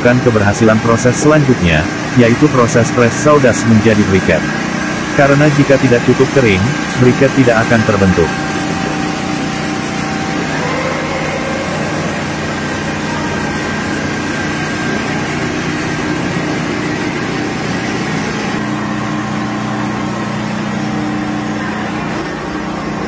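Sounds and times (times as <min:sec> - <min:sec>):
motor and blower hum: 0:00.0 - 0:23.0.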